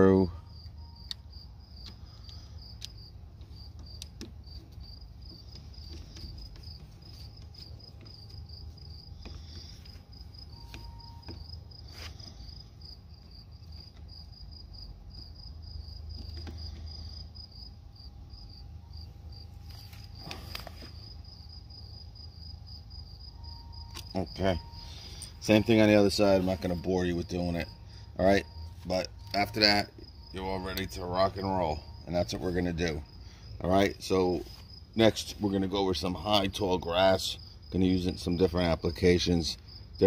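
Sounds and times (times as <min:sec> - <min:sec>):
insects chirping: 0:00.0 - 0:40.0.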